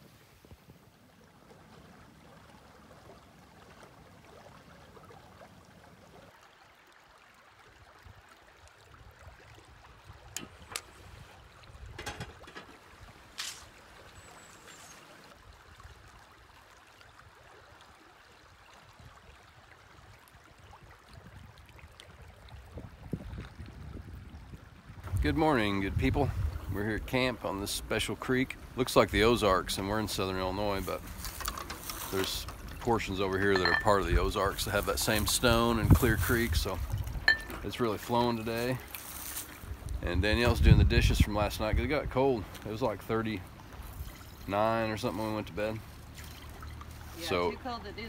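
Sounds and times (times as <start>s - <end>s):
creek water over stones: 0.0s - 48.0s.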